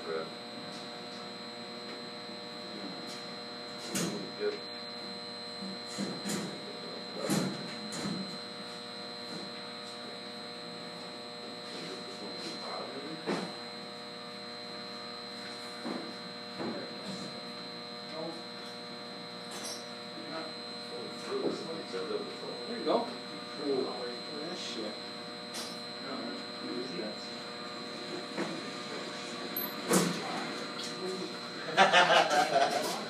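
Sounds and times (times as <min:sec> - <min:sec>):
electrical hum with high whine: 0:00.0 - 0:33.0.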